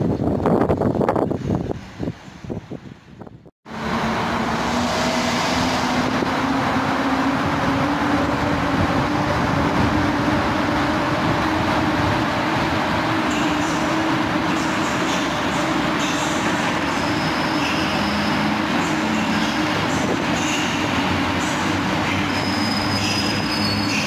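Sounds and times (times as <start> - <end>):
wind buffeting microphone: 0.0 - 3.5, 4.5 - 18.8, 19.4 - 22.0
electric locomotive rumbling: 0.0 - 24.0.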